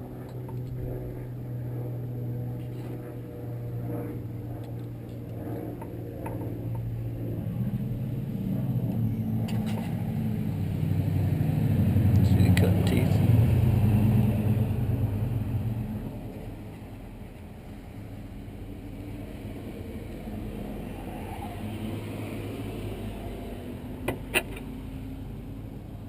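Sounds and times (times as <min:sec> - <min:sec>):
vehicle engine rumbling: 0:03.6 - 0:25.8.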